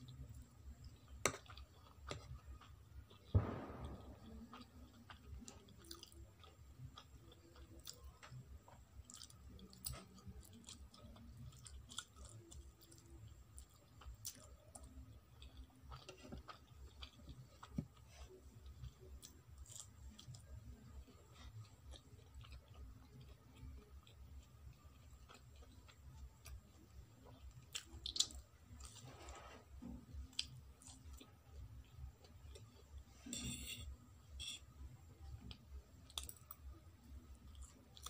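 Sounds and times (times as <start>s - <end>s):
chewing soft noodles: 0.0s - 33.2s, 34.5s - 38.0s.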